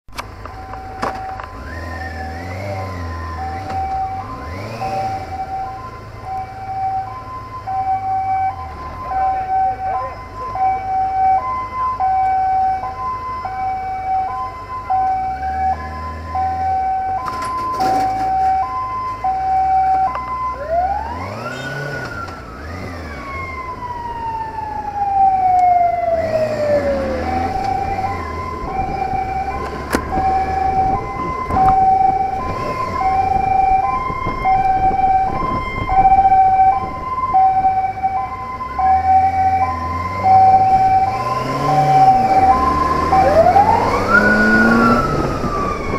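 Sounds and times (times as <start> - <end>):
emergency siren: 0.1 - 45.9.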